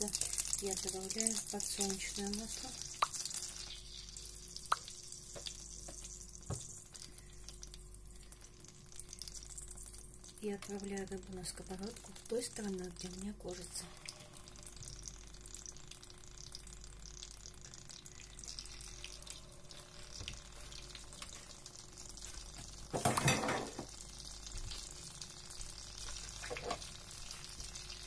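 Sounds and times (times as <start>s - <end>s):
fish fillets sizzling in oil: 0.0s - 28.0s.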